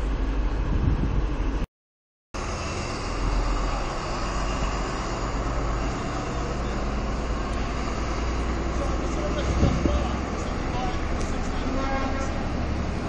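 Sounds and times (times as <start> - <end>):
diesel train rumbling: 0.0 - 1.7, 2.4 - 13.0.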